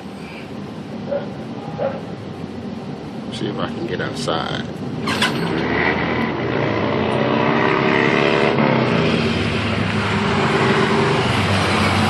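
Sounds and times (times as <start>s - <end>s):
car engines: 0.0s - 12.0s.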